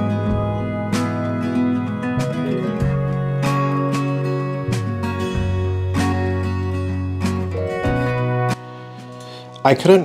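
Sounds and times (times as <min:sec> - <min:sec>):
strummed acoustic guitar: 0:00.0 - 0:09.5.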